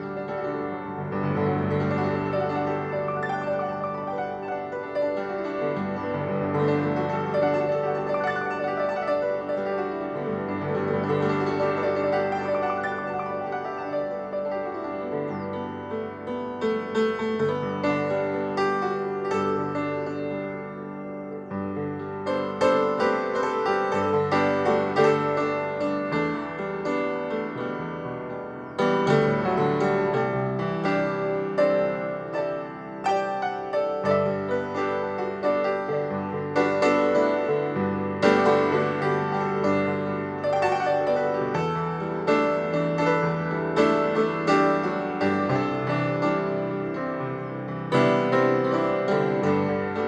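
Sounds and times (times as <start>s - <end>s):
gentle piano music: 0.0s - 50.0s.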